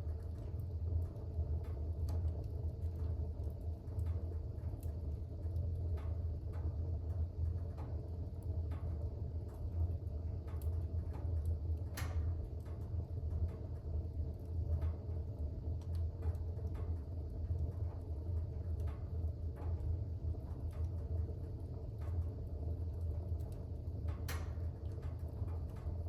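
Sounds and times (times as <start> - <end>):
fire crackles and pops: 0.0 - 26.0
fire rumbling: 0.0 - 26.0.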